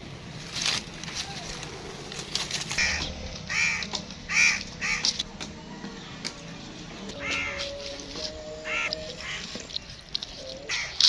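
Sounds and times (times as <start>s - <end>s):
harsh bird calls: 0.8s - 11.0s.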